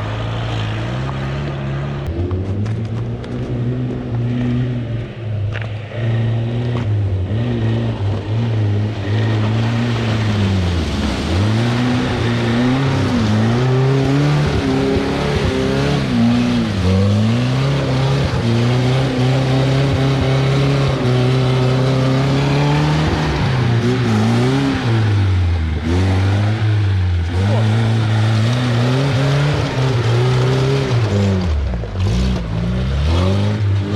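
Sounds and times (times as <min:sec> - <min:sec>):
off-road engine revving: 0:00.0 - 0:33.9.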